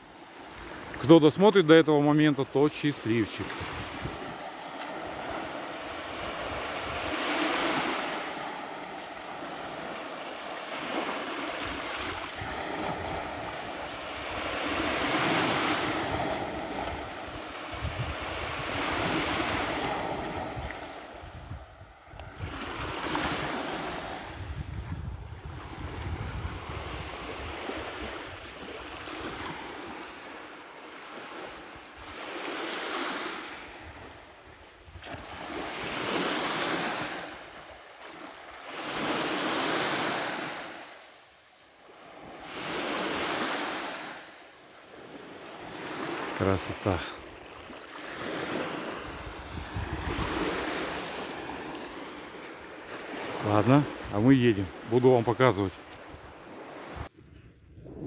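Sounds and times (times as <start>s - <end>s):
small waves lapping on sand: 0.0s - 57.2s.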